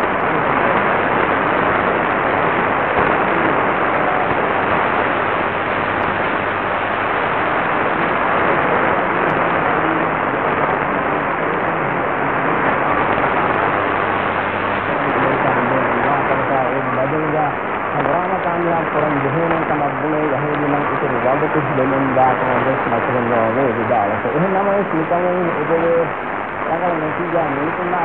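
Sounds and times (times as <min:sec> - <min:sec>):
low steady hum: 0:00.0 - 0:28.0
radio static hiss: 0:00.0 - 0:28.0.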